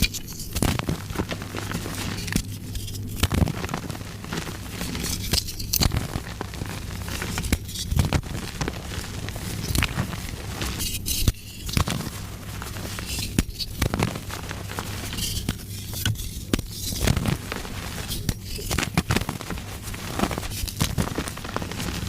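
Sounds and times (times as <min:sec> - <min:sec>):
chalk crunching by hand: 0:00.0 - 0:22.0
steady low hum: 0:00.0 - 0:22.0.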